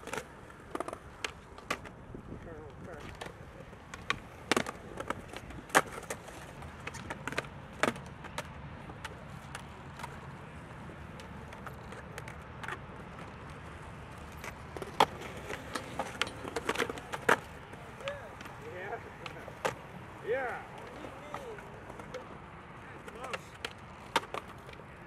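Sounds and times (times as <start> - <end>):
skateboard clacking on concrete: 0.0 - 25.0.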